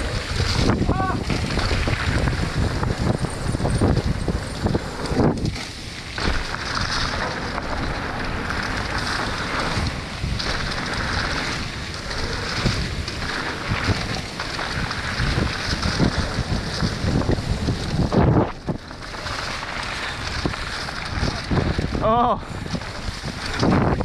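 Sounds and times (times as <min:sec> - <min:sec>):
bike knocks and rattles: 0:00.0 - 0:24.0
tyres rolling over dirt: 0:00.0 - 0:24.0
wind rushing over microphone: 0:00.0 - 0:24.0.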